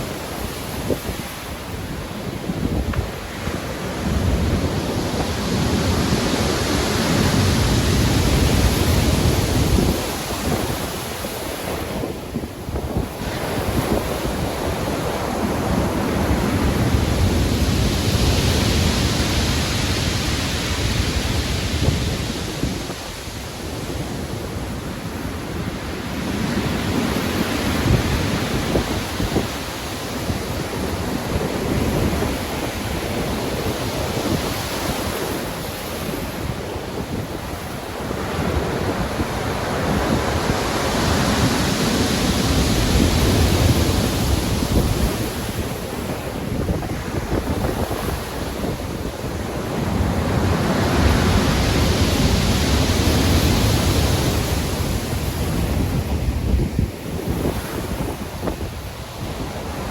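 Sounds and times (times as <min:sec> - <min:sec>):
heavy ocean surf: 0:00.0 - 0:59.9
wind noise: 0:00.0 - 0:59.9.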